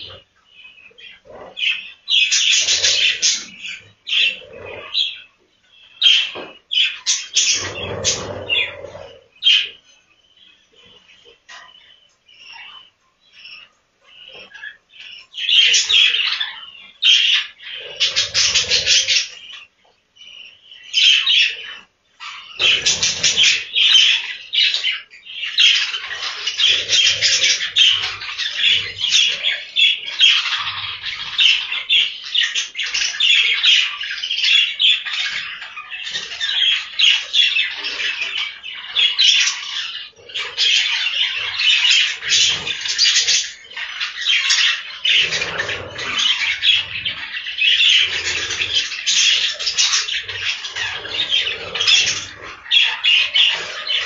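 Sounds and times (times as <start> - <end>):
budgerigars chattering and squawking: 0.0 - 54.0.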